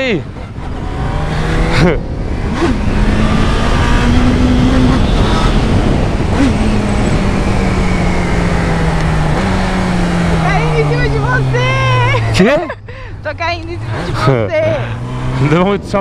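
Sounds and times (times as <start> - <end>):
wind rush over microphone: 0.0 - 12.1, 15.0 - 16.0
motorcycle engine accelerating: 0.0 - 16.0.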